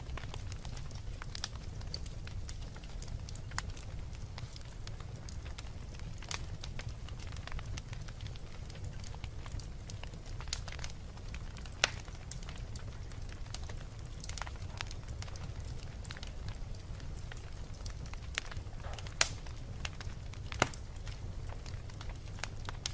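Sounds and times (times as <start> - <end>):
low fire rumble: 0.0 - 22.9
wood fire crackling: 0.0 - 22.9.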